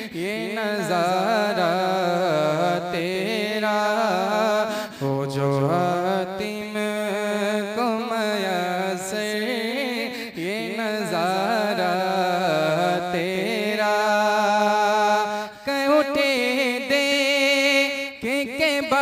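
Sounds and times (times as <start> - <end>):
man singing devotional hymn: 0.0 - 19.0.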